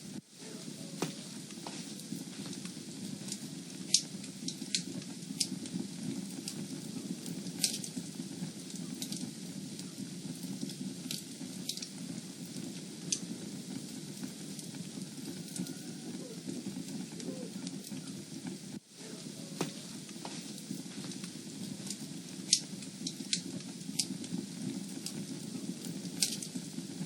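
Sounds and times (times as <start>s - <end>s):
fire crackling in fireplace: 0.0s - 27.0s.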